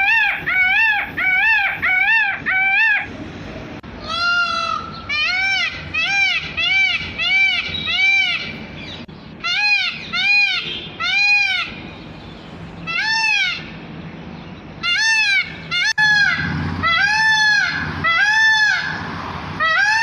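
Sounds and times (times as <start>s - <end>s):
peafowl wailing calls: 0.0s - 3.2s, 4.0s - 11.8s, 12.8s - 13.8s, 14.8s - 20.0s.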